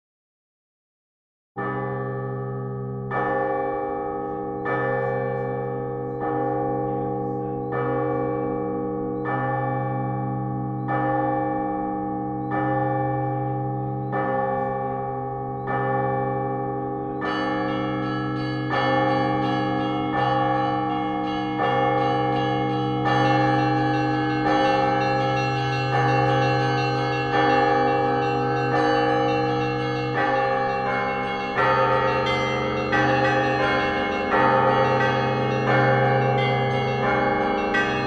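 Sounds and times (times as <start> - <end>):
large church bell tolling: 1.6 - 38.0
smaller higher bells: 1.6 - 38.0.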